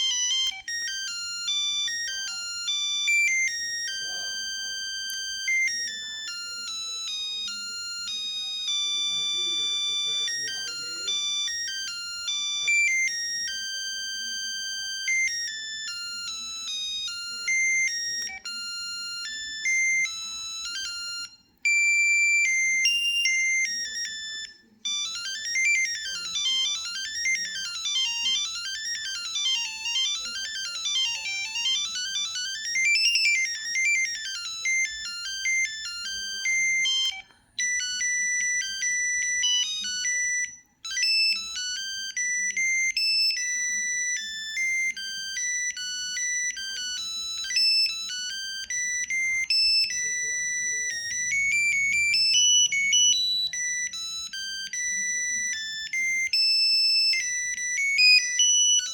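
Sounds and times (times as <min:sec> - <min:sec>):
synthesized phone ringtones: 0:00.0 - 0:58.9.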